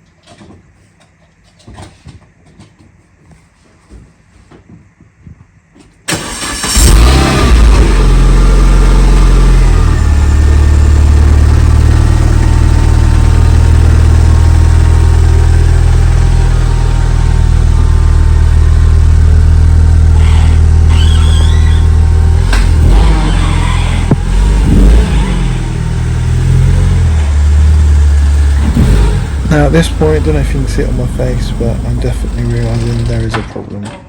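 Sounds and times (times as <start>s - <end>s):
car engine starting and idling: 6.1s - 33.5s.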